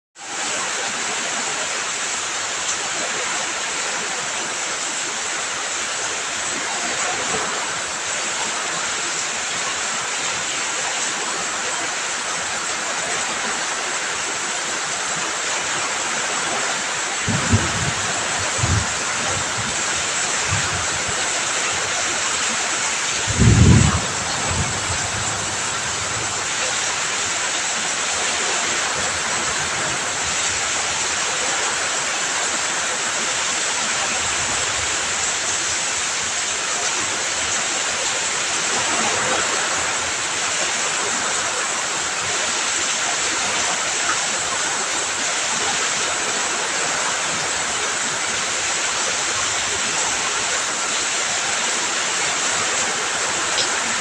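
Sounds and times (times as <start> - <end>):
heavy rain: 0.2 - 54.0.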